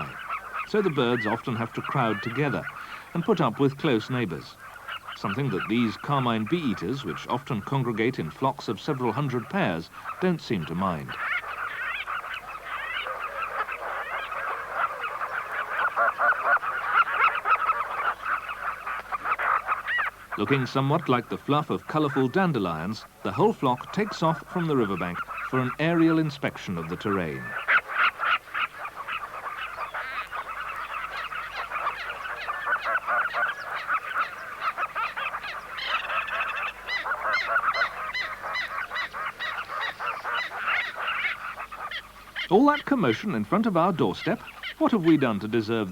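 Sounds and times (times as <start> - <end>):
chorus of bird calls: 0.0 - 45.9.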